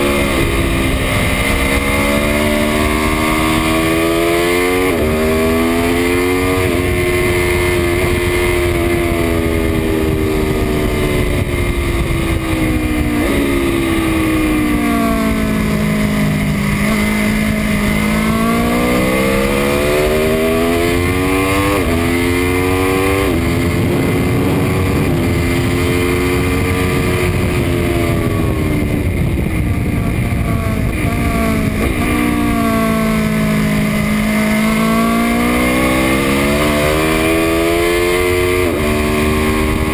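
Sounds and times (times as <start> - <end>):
motorcycle engine at full throttle: 0.0 - 39.9
wind rush: 0.0 - 39.9.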